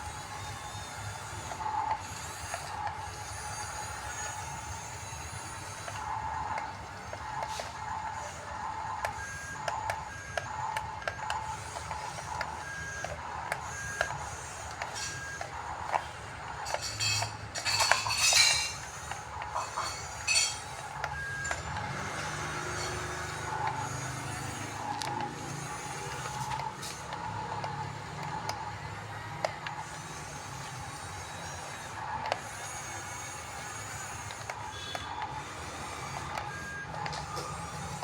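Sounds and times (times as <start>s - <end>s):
model bulldozer mechanical pulse: 0.0s - 38.0s.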